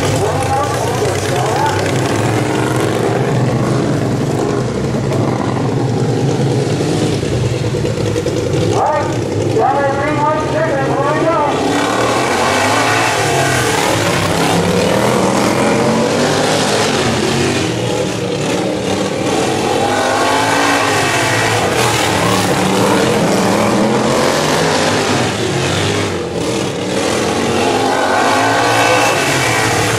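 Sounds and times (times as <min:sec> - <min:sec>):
racing lawn mower engines: 0:00.0 - 0:29.9.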